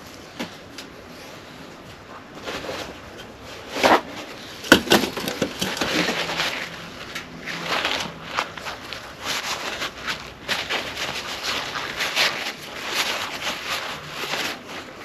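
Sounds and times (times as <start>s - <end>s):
crackly rustling with clicks: 0.0s - 15.0s
scraping: 2.0s - 15.0s.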